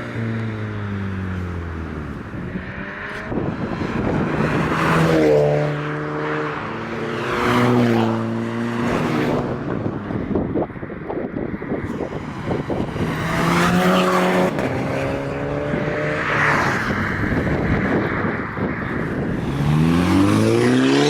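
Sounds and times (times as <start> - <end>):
cars accelerating past: 0.0 - 10.5, 11.8 - 21.0.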